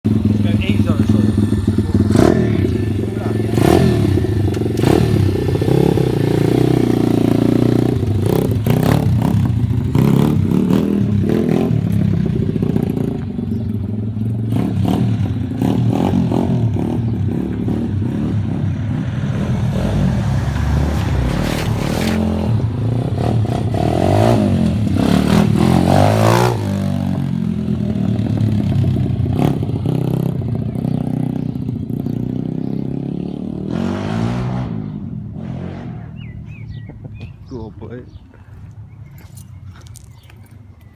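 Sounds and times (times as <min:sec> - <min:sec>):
dirt bike engine revving: 0:00.1 - 0:36.4.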